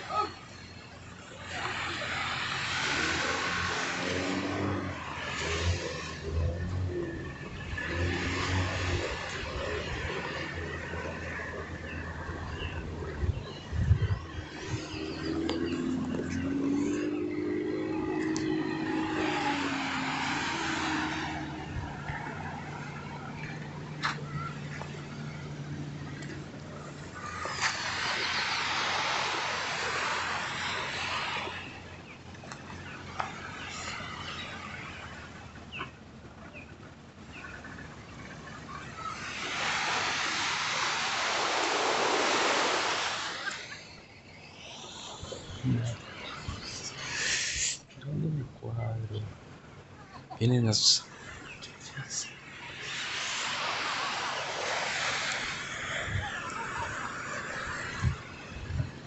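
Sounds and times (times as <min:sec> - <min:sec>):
motorboat engine humming: 0:00.0 - 0:59.0
surf washing up beach: 0:01.2 - 0:13.6, 0:14.2 - 0:35.5, 0:37.4 - 0:48.0, 0:49.2 - 0:59.0.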